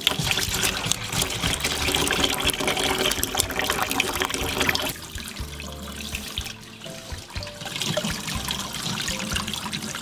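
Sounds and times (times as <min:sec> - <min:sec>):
background music: 0:00.0 - 0:10.0
tap water running into sink: 0:00.0 - 0:10.0.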